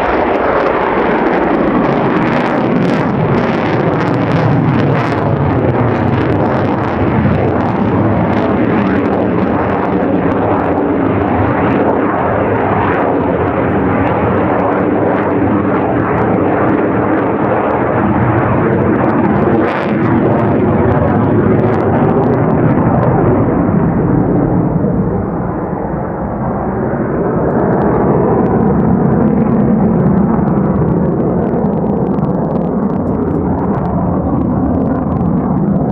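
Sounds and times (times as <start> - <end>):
jet engine roar in flight: 0.0 - 35.9.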